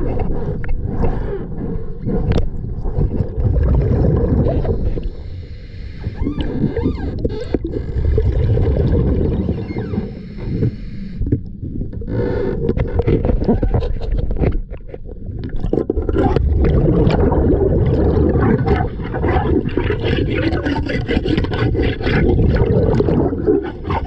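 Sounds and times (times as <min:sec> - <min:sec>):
low underwater rumble of water: 0:00.0 - 0:24.0.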